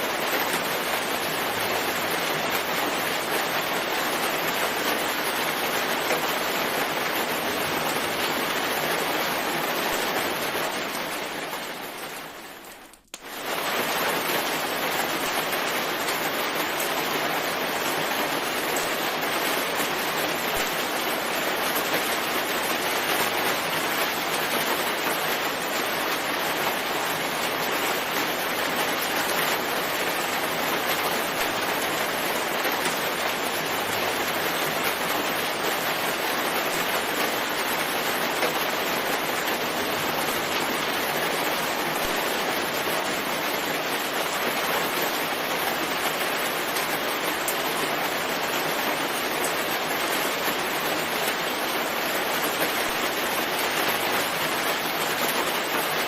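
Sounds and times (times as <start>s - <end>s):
rain falling on forest: 0.0s - 56.0s.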